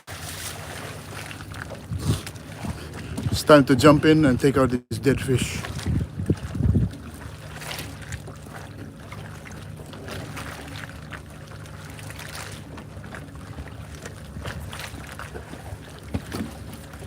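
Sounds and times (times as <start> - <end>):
boat motor humming: 0.0 - 17.0
water splashing and sloshing: 0.0 - 17.0.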